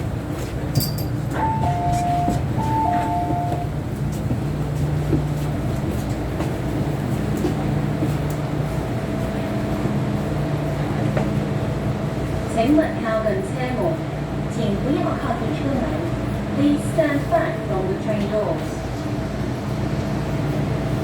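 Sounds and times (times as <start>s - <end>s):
train hum: 0.0s - 21.0s.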